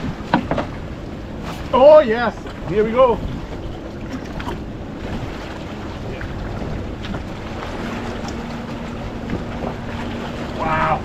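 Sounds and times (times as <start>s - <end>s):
water moving around boat: 0.0s - 11.0s
wind buffeting microphone: 0.0s - 11.0s.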